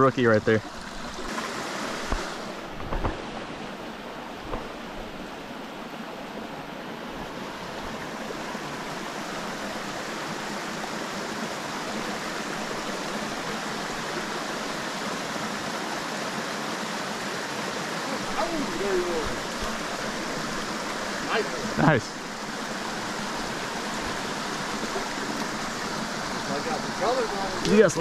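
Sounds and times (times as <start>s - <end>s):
creek water running over rocks: 0.0s - 28.0s.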